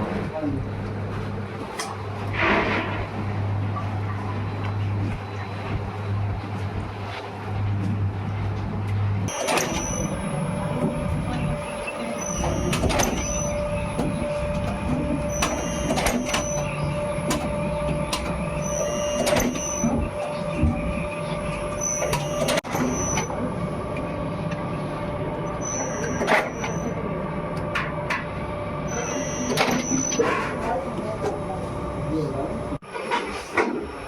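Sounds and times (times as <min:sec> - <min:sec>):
factory machinery humming: 0:00.0 - 0:34.0.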